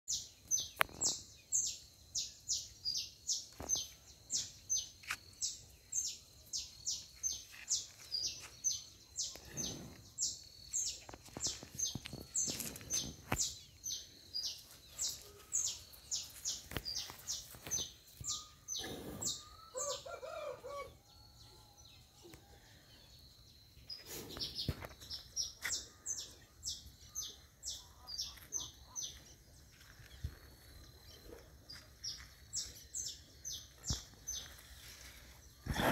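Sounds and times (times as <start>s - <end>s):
bird chirping: 0.1s - 35.9s.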